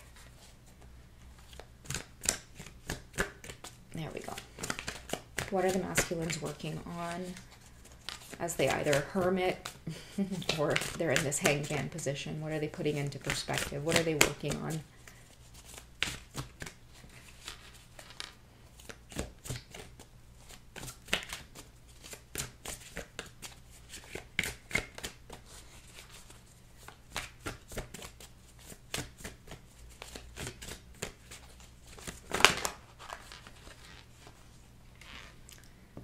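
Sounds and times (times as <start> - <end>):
cards being shuffled: 0.0 - 35.4.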